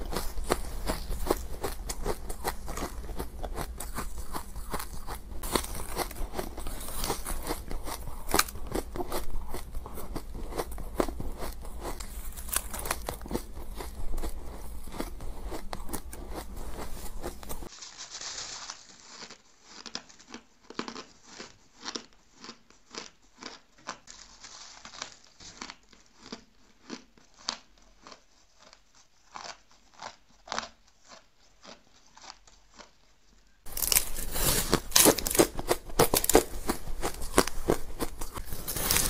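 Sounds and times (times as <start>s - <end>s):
ice crunching in mouth: 0.0s - 32.9s, 33.7s - 39.0s.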